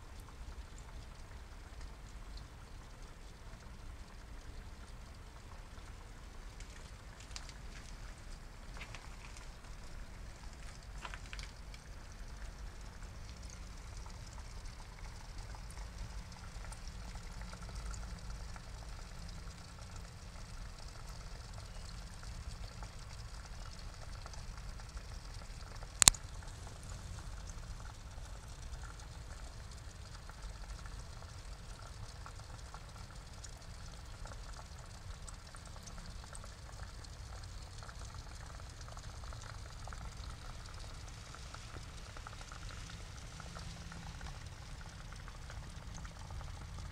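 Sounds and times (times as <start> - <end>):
water trickling into a pond: 0.0 - 46.9.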